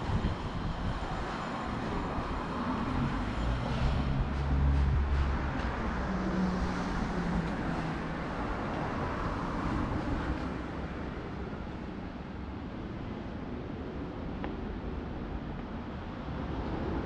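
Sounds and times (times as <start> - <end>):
traffic passing: 0.0 - 17.0.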